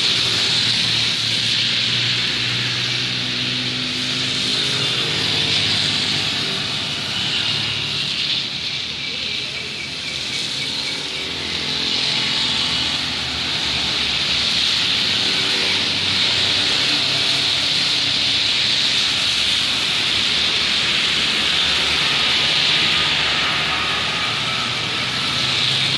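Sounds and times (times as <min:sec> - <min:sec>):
motorcycles and cars passing: 0:00.0 - 0:25.9
rain hissing on road: 0:00.0 - 0:25.9.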